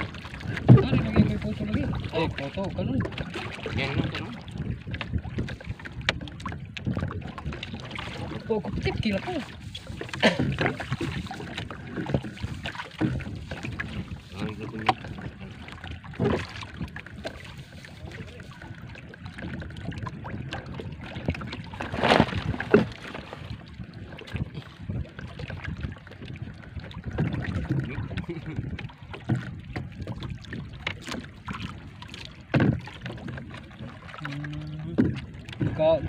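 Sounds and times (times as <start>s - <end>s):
water lapping against boat hull: 0.0s - 36.0s
wind on microphone: 0.0s - 36.0s.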